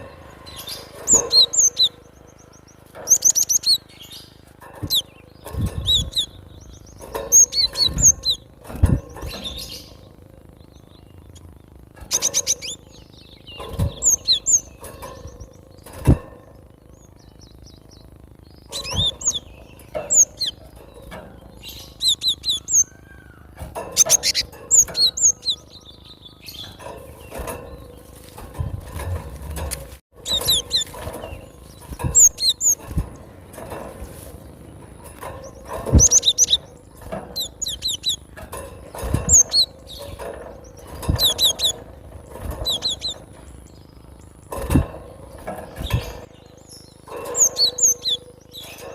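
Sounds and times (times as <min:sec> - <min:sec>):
bird chirping: 0:00.0 - 0:28.7, 0:30.2 - 0:48.9.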